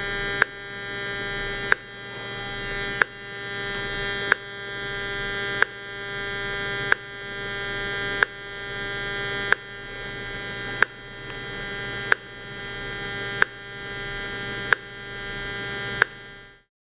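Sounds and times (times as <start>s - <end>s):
electronic buzz from speaker: 0.0s - 16.7s.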